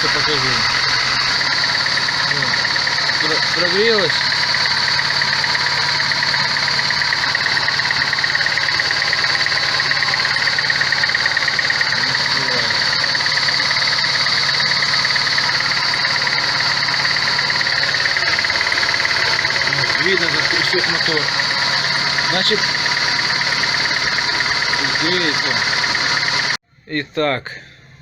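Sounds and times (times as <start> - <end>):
car engine idling rough: 0.0 - 26.6.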